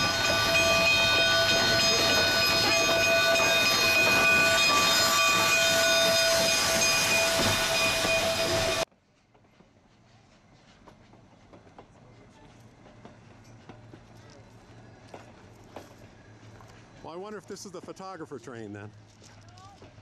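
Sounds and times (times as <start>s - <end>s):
steam locomotive rolling past: 0.0s - 20.0s.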